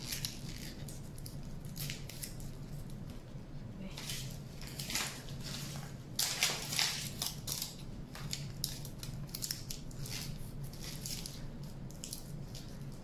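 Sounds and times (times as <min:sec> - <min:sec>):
aluminium foil crinkling: 0:00.0 - 0:03.2, 0:03.8 - 0:13.0.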